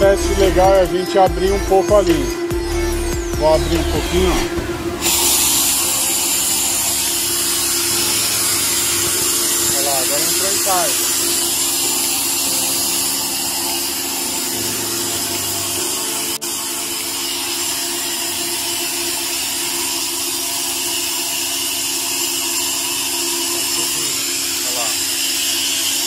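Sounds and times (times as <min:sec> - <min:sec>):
air compressor humming and hissing: 0:00.0 - 0:26.0.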